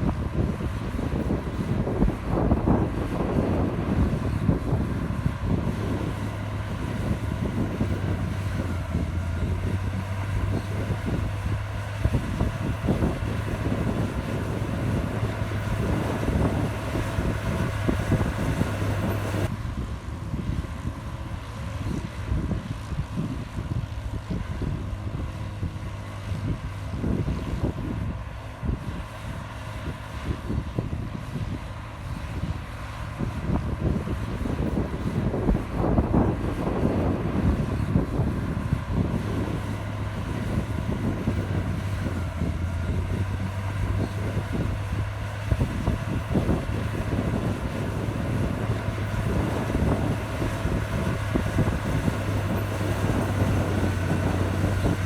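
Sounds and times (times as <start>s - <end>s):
bulldozer engine rumbling: 0.0s - 55.0s
low hum: 0.0s - 55.0s.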